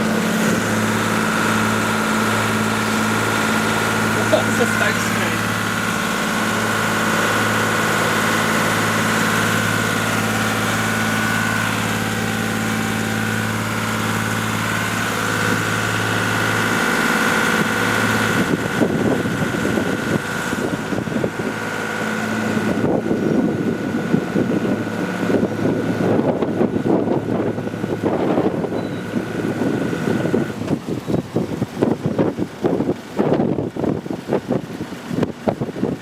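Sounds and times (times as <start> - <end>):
boat engine humming: 0.0 - 36.0
wind buffeting microphone: 0.0 - 36.0.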